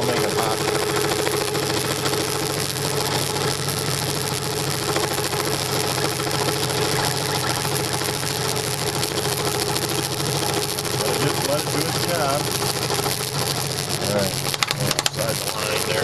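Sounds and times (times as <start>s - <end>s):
scroll saw cutting wood: 0.0s - 16.0s.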